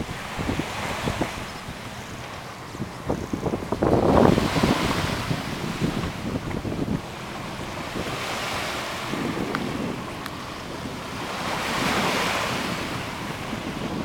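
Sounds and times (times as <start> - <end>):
small waves on sandy shore: 0.0 - 14.0
wind buffeting microphone: 0.0 - 14.0.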